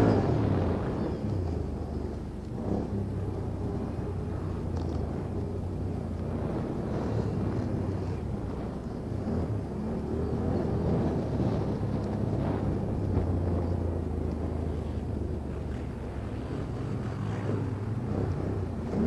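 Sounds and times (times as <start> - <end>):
vehicle engine running low revs: 0.0 - 19.0.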